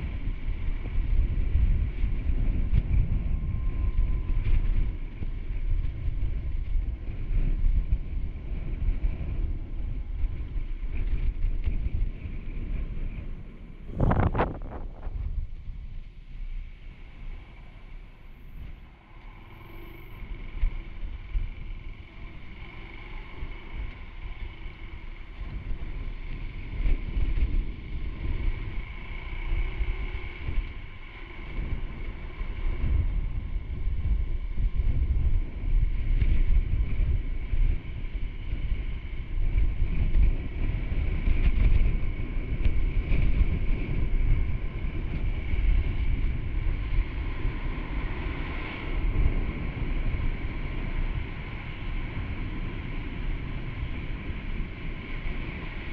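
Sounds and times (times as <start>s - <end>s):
motorcycle engine running: 0.0s - 55.9s
wind buffeting microphone: 0.0s - 55.9s.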